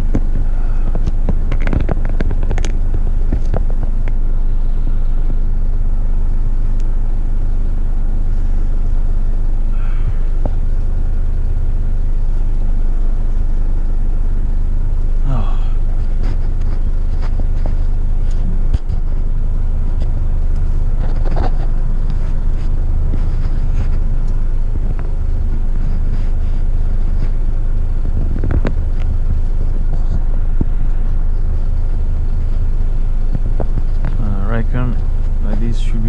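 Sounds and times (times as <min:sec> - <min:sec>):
truck diesel engine running: 0:00.0 - 0:36.0.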